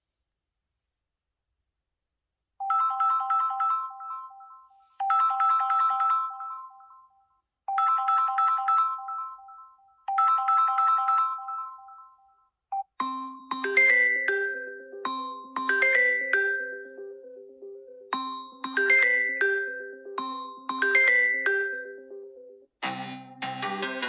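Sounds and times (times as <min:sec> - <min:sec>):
phone ringtone chiming: 0:02.6 - 0:24.0.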